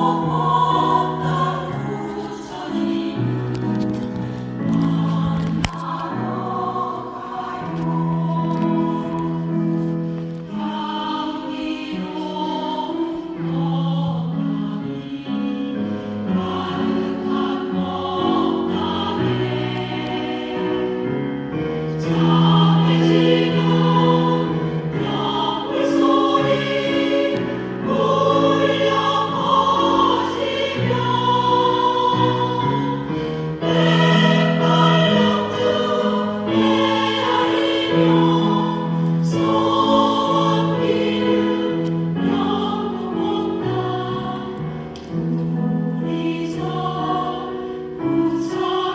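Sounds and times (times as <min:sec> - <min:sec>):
choir singing a hymn: 0:00.0 - 0:48.9.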